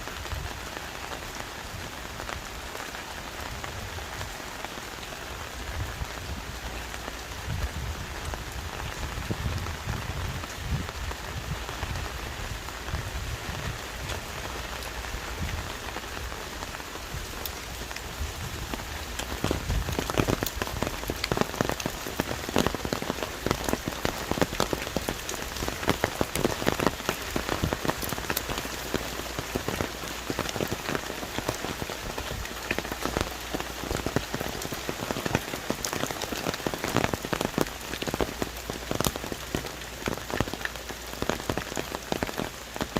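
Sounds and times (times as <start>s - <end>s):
heavy rain falling on trees: 0.0s - 42.9s.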